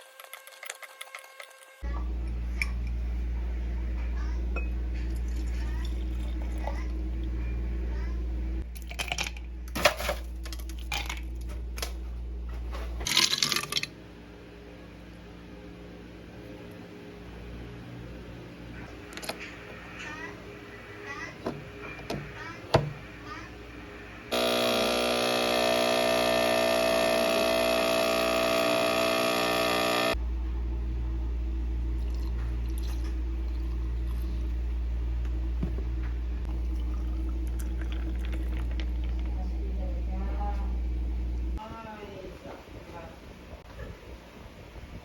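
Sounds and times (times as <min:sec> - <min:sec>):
low room hum: 0:01.8 - 0:45.0.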